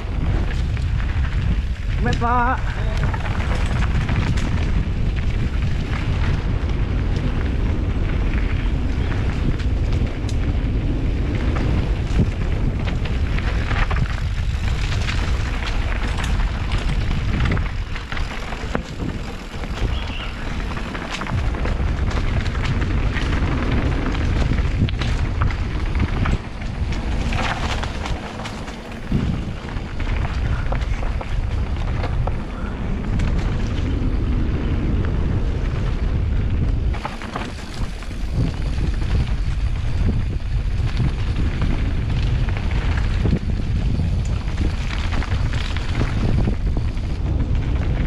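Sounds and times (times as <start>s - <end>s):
bike clicks and rattles: 0.0s - 48.0s
wind buffeting microphone: 0.0s - 48.0s.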